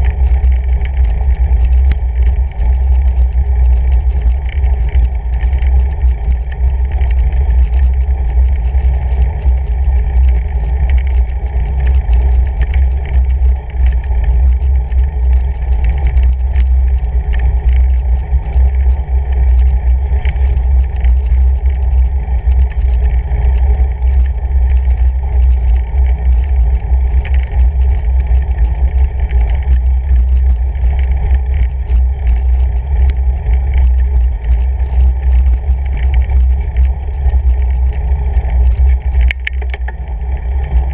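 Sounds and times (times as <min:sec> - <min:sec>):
bike rumbling over snowy gravel: 0:00.0 - 0:40.9
small ticks and clicks: 0:00.0 - 0:40.9.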